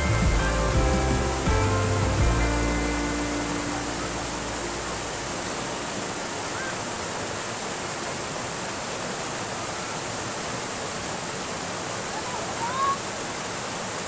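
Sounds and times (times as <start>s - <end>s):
water rushing down a ditch: 0.0s - 14.0s.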